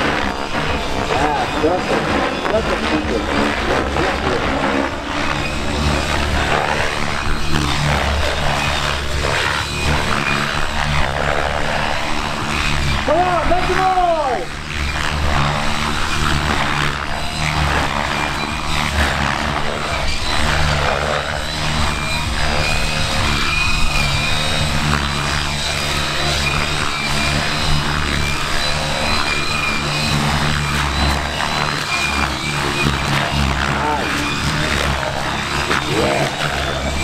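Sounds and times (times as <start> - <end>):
rc helicopters whirring and whining: 0.0 - 37.0.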